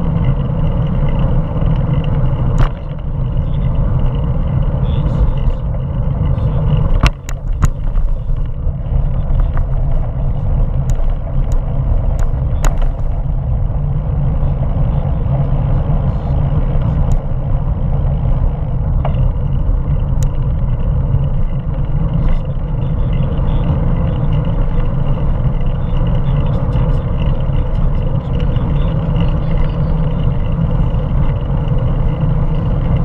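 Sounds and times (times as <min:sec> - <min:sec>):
bicycle tyre and road noise: 0:00.0 - 0:33.0.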